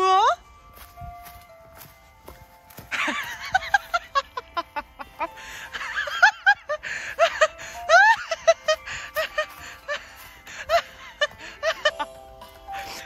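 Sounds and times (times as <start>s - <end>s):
playful plucked background music: 0.0s - 13.0s.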